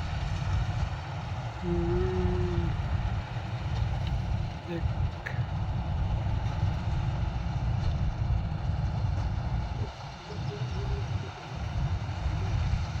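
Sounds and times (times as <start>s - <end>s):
combine harvester rumble: 0.0s - 13.0s.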